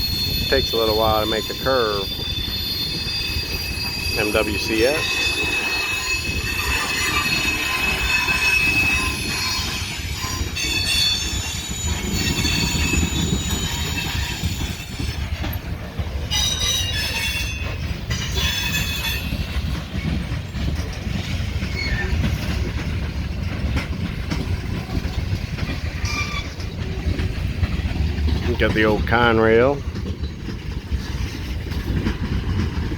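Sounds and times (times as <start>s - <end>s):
freight train rumbling: 0.0s - 32.9s
train wheels squealing on rail: 0.0s - 32.9s.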